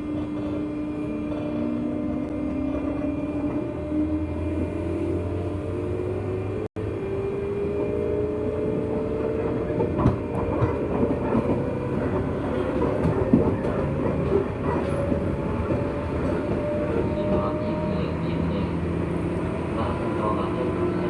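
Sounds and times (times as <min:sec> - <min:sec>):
train rolling noise: 0:00.0 - 0:21.0.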